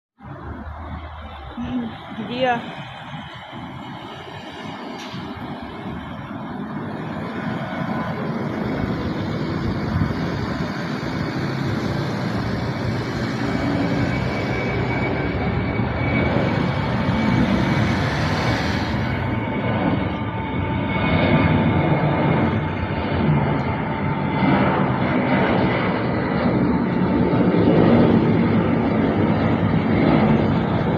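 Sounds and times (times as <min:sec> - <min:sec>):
airplane engines rushing: 0:00.2 - 0:30.9
faint engine whine: 0:00.2 - 0:30.9.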